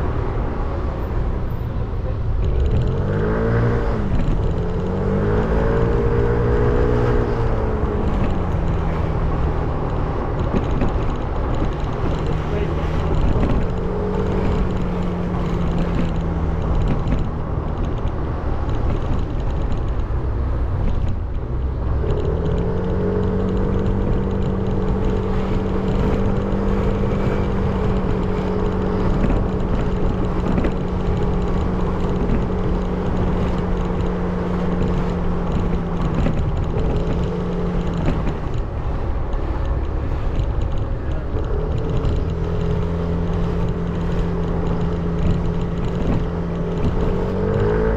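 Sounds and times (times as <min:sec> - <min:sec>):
motorbike engine cruising: 0:00.0 - 0:47.9
wind on microphone: 0:02.6 - 0:47.9.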